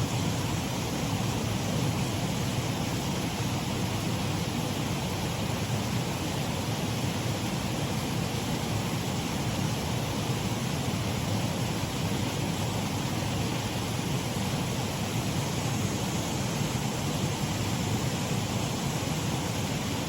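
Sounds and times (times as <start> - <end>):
water rushing over waterfall: 0.0 - 20.0.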